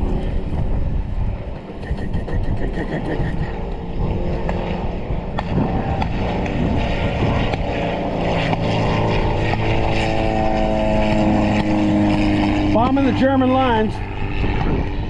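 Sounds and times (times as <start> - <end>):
plane engine droning: 0.0 - 15.0
wind rumble on microphone: 0.0 - 15.0.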